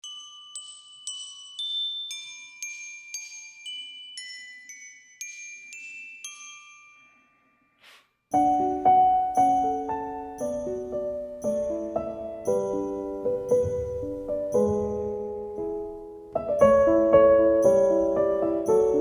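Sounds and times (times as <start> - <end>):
bell-like melody: 0.0 - 19.0.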